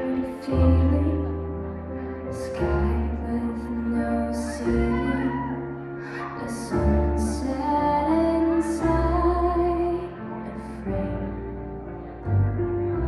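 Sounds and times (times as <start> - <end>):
slow waltz music: 0.0 - 13.0.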